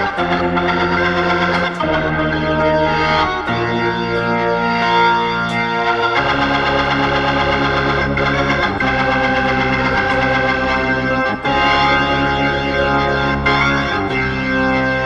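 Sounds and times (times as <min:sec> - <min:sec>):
low bass: 0:00.0 - 0:15.0
organ chords: 0:00.0 - 0:15.0.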